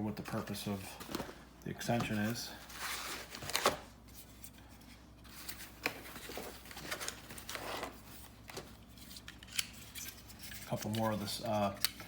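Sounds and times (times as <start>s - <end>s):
packaging rustling: 0.3s - 4.4s, 5.3s - 11.2s.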